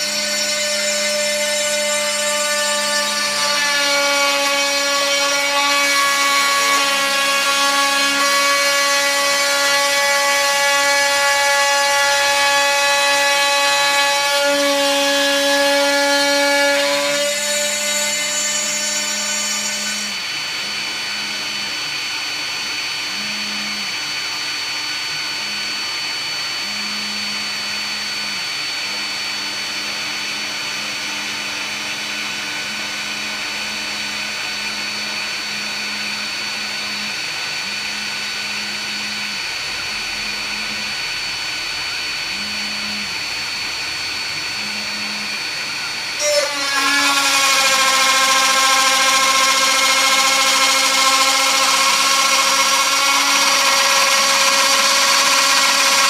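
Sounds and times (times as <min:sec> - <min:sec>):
cnc router whining: 0:00.0 - 0:56.0.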